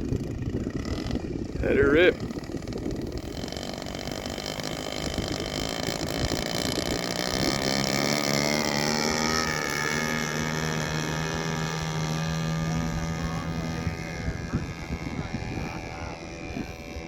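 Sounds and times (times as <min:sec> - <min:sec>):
model airplane engine revving up: 0:00.0 - 0:17.0.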